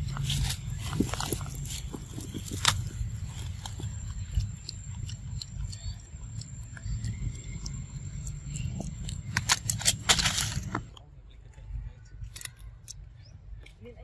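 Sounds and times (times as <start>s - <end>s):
monkey crunching cabbage leaves: 0.0s - 11.0s, 12.2s - 13.0s
low rumble: 0.0s - 12.0s.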